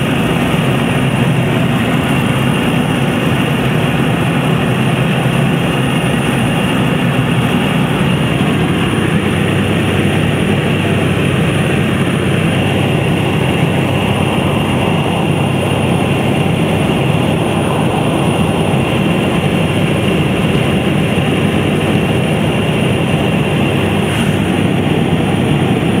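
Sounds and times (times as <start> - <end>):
aircraft engine and propeller drone: 0.0 - 26.0.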